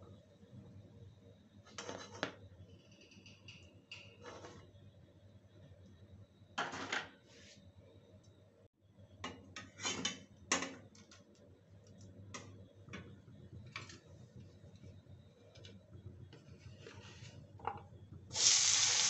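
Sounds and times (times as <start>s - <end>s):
faint low hum: 0.0s - 18.3s.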